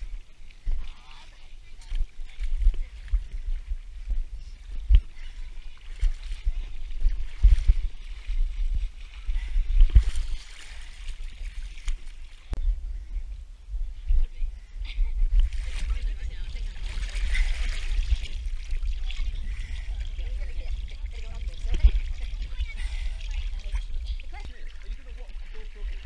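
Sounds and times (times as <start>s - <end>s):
water splashing and sloshing: 0.0s - 12.8s, 14.0s - 26.0s.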